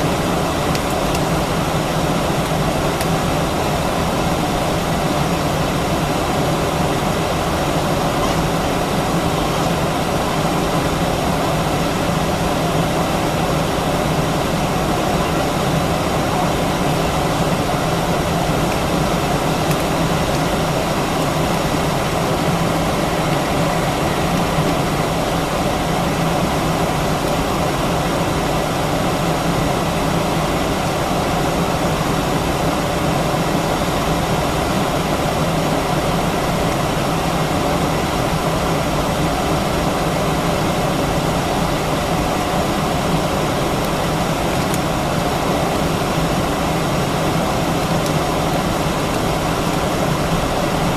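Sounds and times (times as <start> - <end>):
air conditioning rush: 0.0 - 50.9
airliner cabin engine hum: 0.0 - 50.9.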